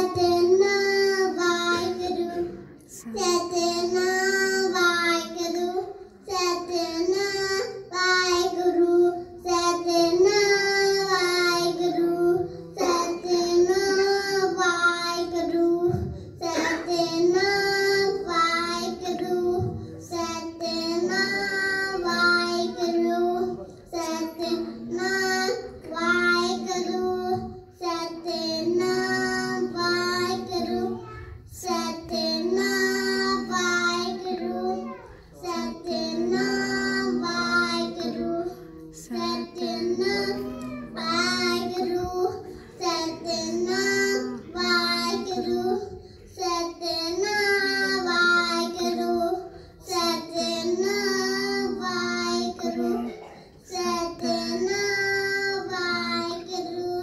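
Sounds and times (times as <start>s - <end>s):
girls singing a hymn: 0.0s - 57.0s.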